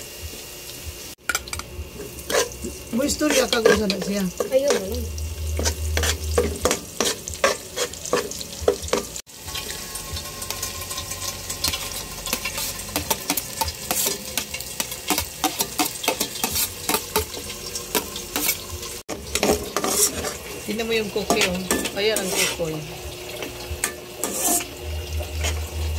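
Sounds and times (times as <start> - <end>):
food sizzling in hot oil: 0.0 - 25.9
metal ladle scraping pan: 1.3 - 25.9.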